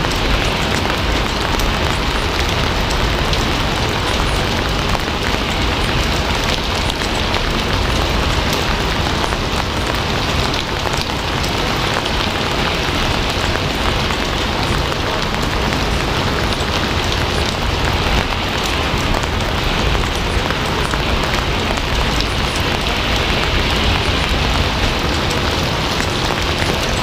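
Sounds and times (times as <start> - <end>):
loud rain falling: 0.0 - 27.0.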